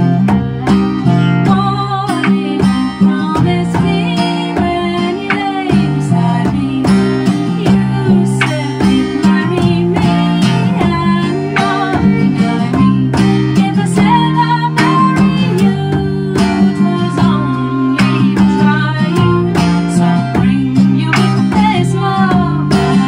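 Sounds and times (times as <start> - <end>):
fiddle: 0.0 - 23.0
strummed acoustic guitar: 0.0 - 23.0
woman singing: 0.0 - 23.0.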